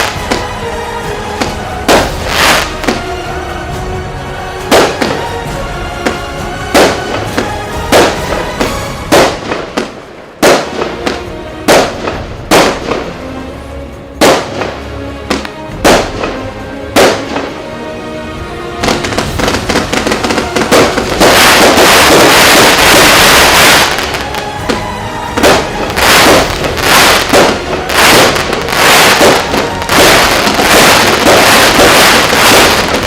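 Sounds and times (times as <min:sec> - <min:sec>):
firework bangs: 0:00.0 - 0:00.7, 0:01.3 - 0:03.5, 0:04.6 - 0:13.2, 0:14.2 - 0:17.6, 0:18.8 - 0:33.0
firework crackling barrage: 0:00.0 - 0:13.4, 0:14.2 - 0:17.7, 0:18.8 - 0:33.0.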